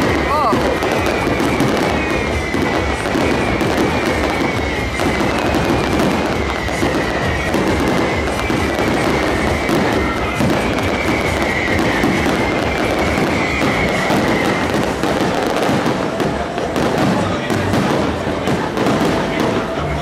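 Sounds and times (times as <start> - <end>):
fireworks bangs and crackle: 0.0 - 20.0.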